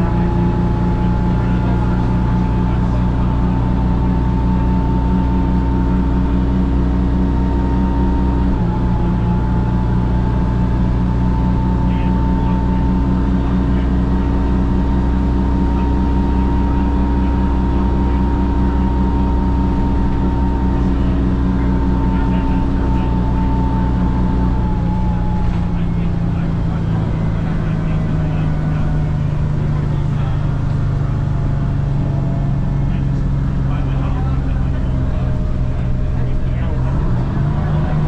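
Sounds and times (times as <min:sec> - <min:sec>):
bus diesel engine running: 0:00.0 - 0:38.0
steady whine: 0:00.0 - 0:38.0.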